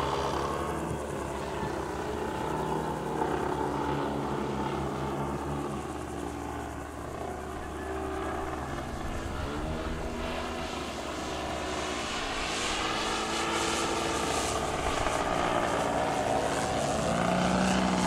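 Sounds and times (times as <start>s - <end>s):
model airplane engine flying past: 0.0s - 18.0s.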